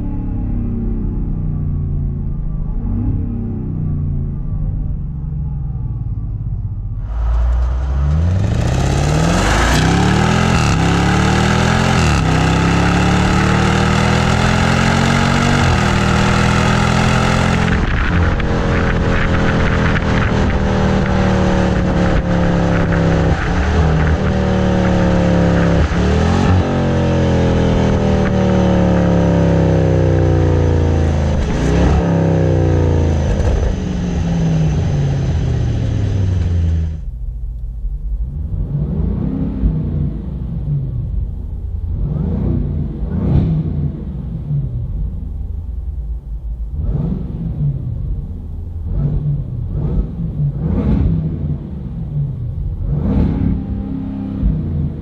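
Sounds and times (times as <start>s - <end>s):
car engine exhaust accelerating: 0.0s - 55.0s.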